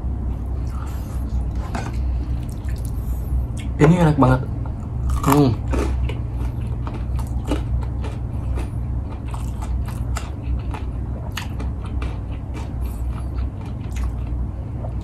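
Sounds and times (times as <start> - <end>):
steady low hum: 0.0 - 15.0
person chewing food: 0.3 - 3.7, 4.7 - 15.0.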